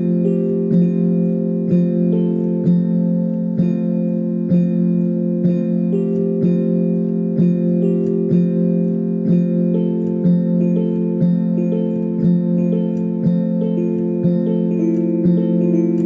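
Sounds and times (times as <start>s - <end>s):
electric piano chord pulsing: 0.0s - 16.0s.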